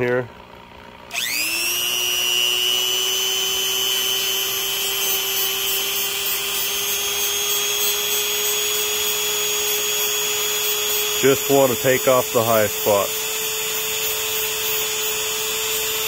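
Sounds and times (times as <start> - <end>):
rotary tool grinding whine: 0.0 - 16.0.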